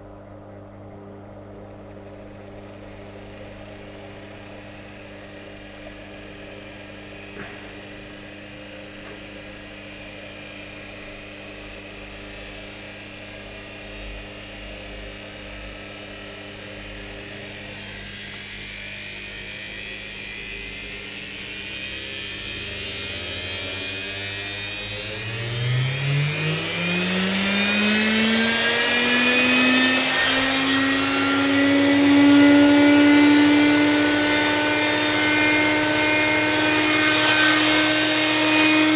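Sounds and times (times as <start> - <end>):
washing machine motor running: 1.0 - 38.9.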